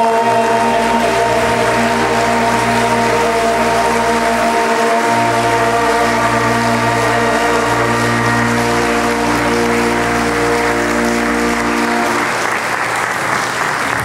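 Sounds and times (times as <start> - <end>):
held closing chord: 0.0 - 12.6
congregation applauding: 0.0 - 14.0.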